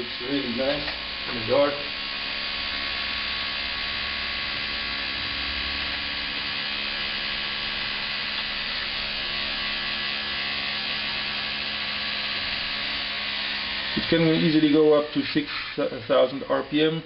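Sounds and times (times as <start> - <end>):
centrifuge motor whine: 0.0 - 17.0.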